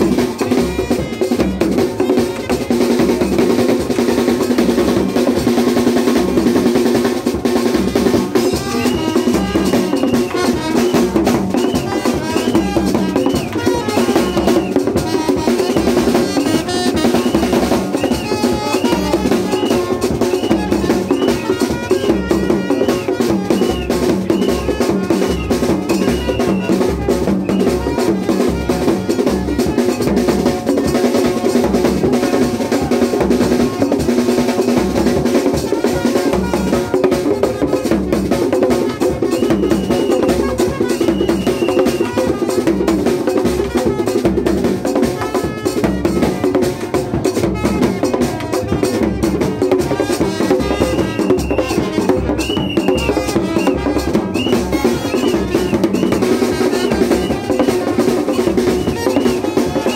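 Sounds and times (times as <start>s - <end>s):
loud music with drum beat: 0.0s - 59.9s.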